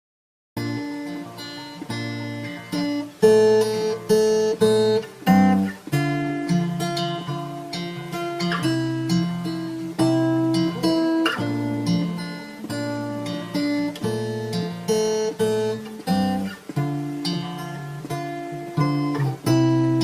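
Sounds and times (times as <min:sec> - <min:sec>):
acoustic guitar chords: 0:00.6 - 0:20.0.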